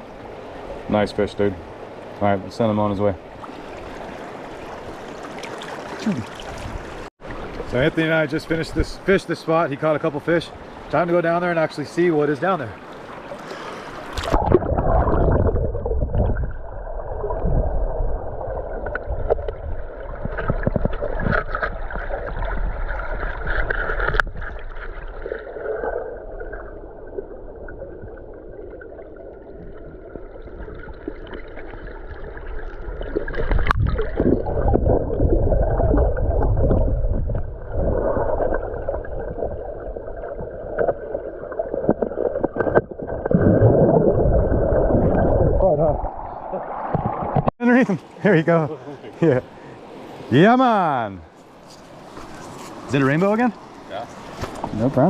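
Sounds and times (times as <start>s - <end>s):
muffled river current underwater: 0.0s - 2.3s, 3.2s - 9.2s, 12.0s - 50.3s.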